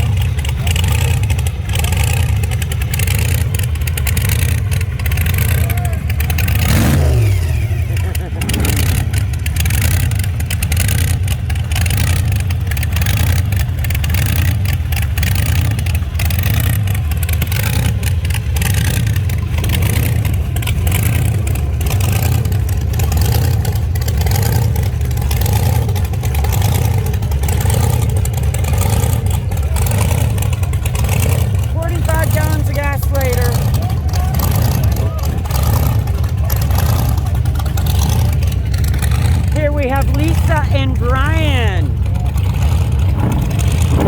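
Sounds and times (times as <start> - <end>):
car engines rumbling and revving: 0.0 - 44.0.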